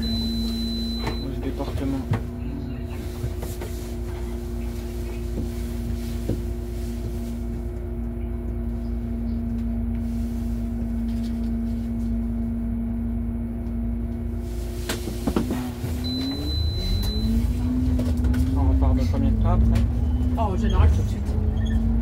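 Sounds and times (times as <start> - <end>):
bus engine low rumble: 0.0 - 22.0.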